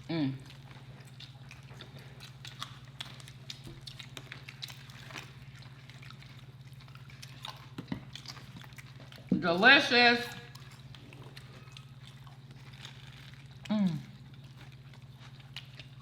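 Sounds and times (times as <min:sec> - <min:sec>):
steady low hum: 0:00.0 - 0:16.0
wet chewing: 0:00.4 - 0:16.0.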